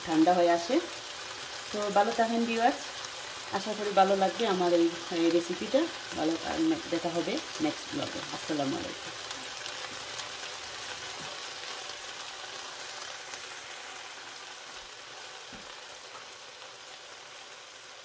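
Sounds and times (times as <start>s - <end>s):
vegetables sizzling in frying pan: 0.0s - 18.0s.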